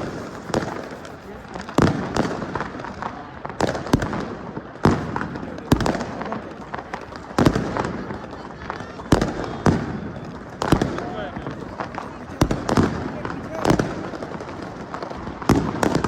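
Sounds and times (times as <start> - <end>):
firecrackers crackling: 0.0 - 16.0
firework bangs: 0.0 - 16.0.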